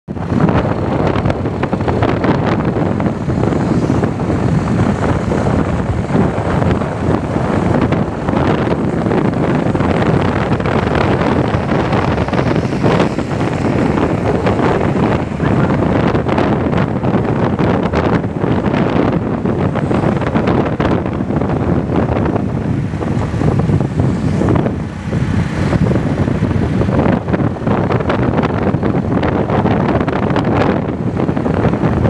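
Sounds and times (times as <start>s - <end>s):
wind buffeting microphone: 0.1s - 32.0s.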